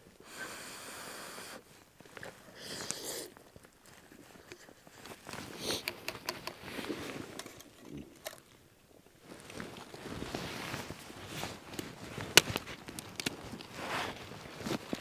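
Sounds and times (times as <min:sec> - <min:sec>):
soft rustles of handling: 0:01.7 - 0:15.0.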